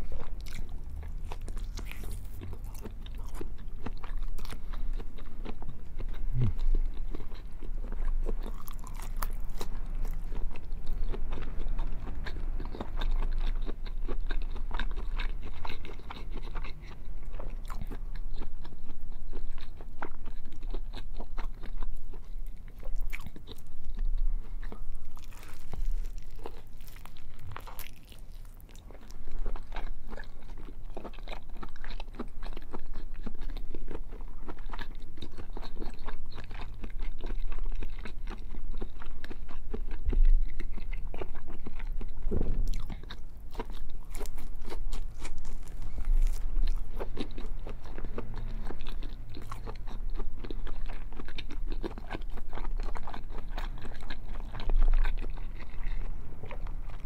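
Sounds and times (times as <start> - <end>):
biting and chewing crunchy bacon: 0.0 - 57.0.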